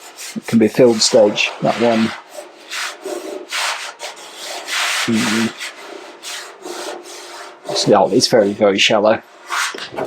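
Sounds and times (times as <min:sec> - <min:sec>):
rubbing strokes on steel panel: 0:00.0 - 0:10.0.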